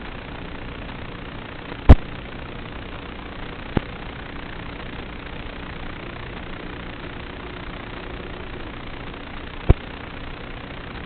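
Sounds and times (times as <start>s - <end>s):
quadcopter motors humming: 0.0s - 11.0s.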